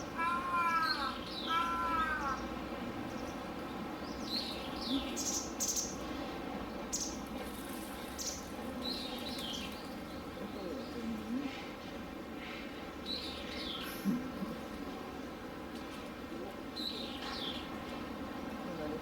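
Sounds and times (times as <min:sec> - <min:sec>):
small birds chirping: 0:00.0 - 0:15.5, 0:16.8 - 0:19.0.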